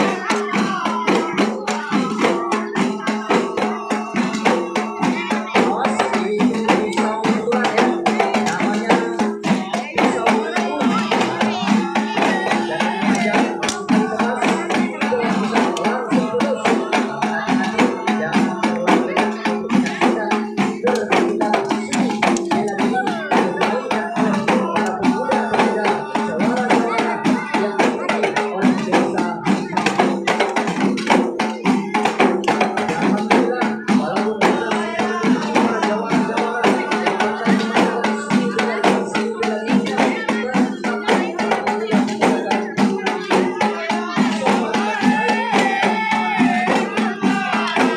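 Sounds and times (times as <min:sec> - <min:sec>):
chanted singing: 0:00.0 - 0:47.9
frame drums beating: 0:00.0 - 0:47.9.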